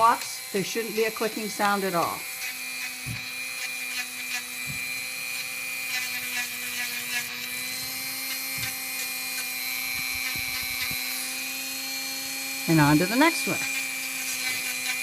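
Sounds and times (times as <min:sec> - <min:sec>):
grinding hiss on toenail: 0:00.0 - 0:15.0
rotary tool motor whine: 0:00.0 - 0:15.0.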